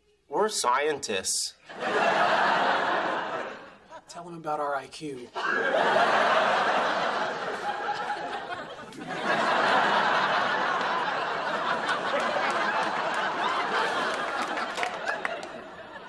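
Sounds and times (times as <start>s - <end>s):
studio audience laughing: 1.7s - 4.1s, 5.4s - 16.0s.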